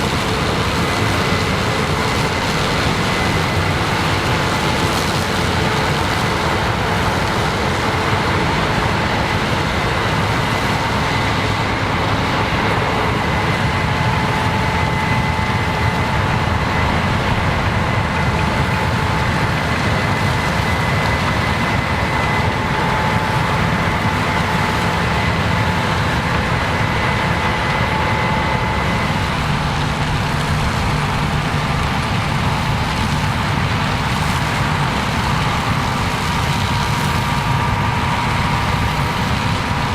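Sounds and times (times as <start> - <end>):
harvest machinery engine noise: 0.0 - 39.9.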